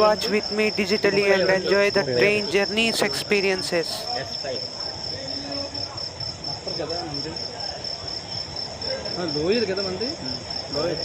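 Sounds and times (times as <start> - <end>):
faint voices talking: 0.0 - 11.0
insects chirring: 0.0 - 11.0.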